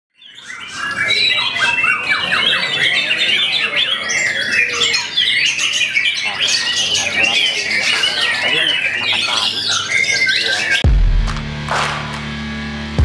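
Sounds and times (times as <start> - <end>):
songbird whistling song: 0.1 - 10.8.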